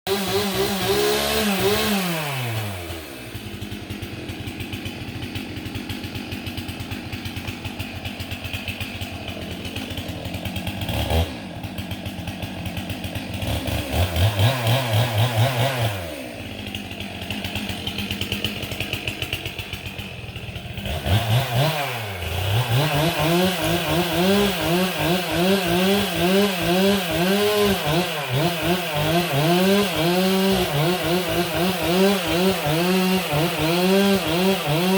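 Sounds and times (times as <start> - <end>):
chainsaw engine idling and revving: 0.0 - 34.9.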